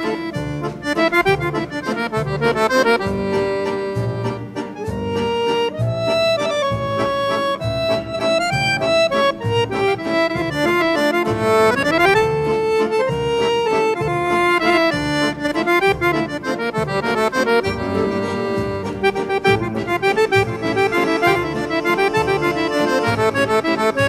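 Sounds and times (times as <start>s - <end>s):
accordion folk music with bass beat: 0.0s - 24.0s.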